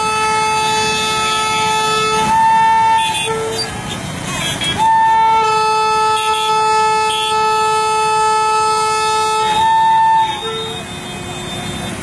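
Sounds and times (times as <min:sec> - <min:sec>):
train air horn blowing: 0:00.0 - 0:03.8, 0:04.5 - 0:12.0
traffic and street noise: 0:00.0 - 0:12.0.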